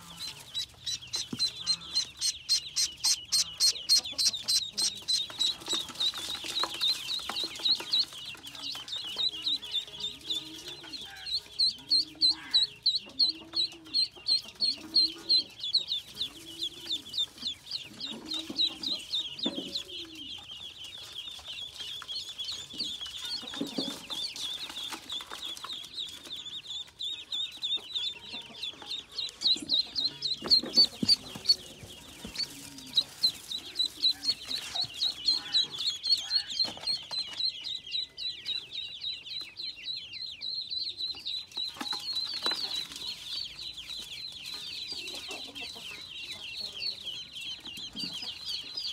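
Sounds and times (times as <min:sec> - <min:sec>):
ducklings peeping: 0:00.0 - 0:48.9.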